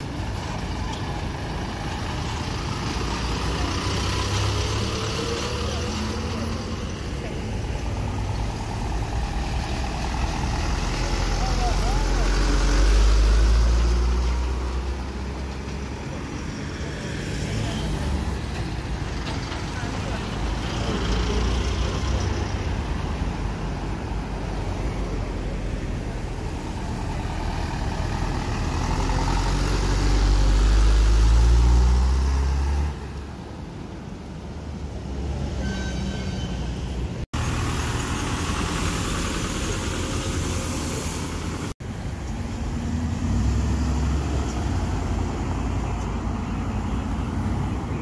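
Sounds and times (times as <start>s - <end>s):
truck engine rumbling past: 0.0s - 35.7s, 36.4s - 48.0s
road traffic: 0.0s - 48.0s.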